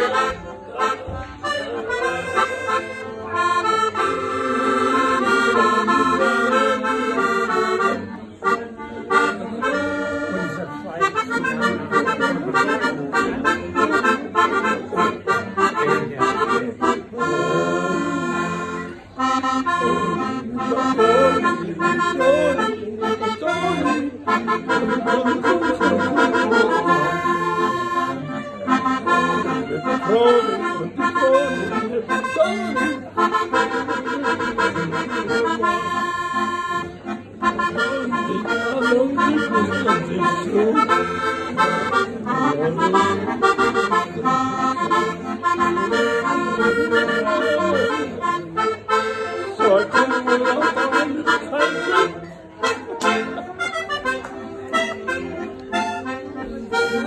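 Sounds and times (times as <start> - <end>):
accordion playing a tune: 0.0 - 57.0.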